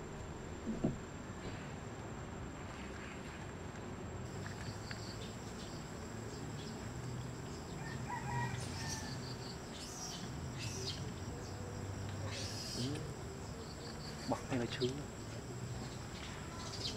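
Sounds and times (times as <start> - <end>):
outdoor background noise: 0.0 - 16.9.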